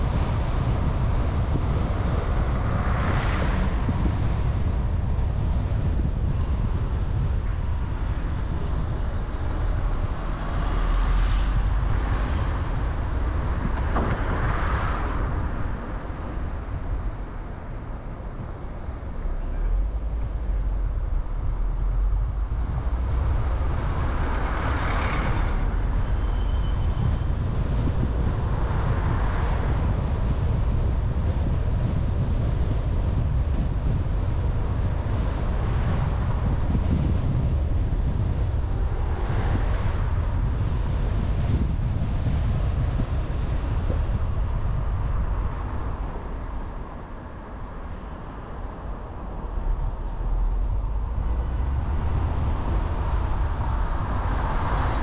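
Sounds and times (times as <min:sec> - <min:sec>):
road and wind noise: 0:00.0 - 0:55.0
vehicles passing: 0:00.0 - 0:55.0.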